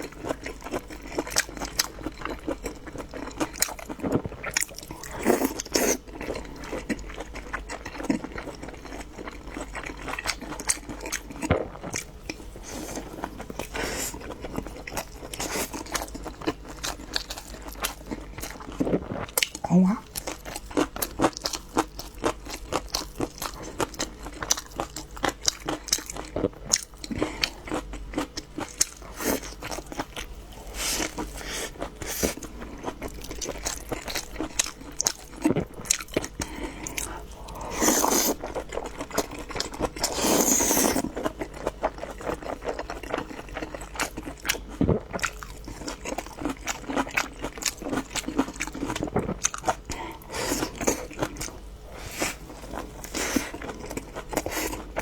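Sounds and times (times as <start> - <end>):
chewing crunchy food: 0.0 - 55.0.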